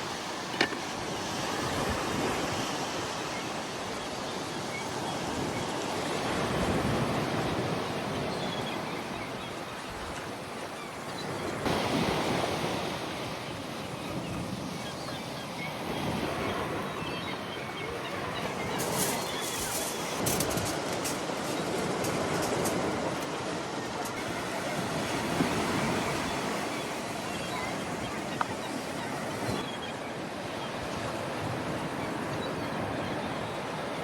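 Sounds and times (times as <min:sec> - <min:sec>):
sea waves breaking on shore: 0:00.0 - 0:34.0.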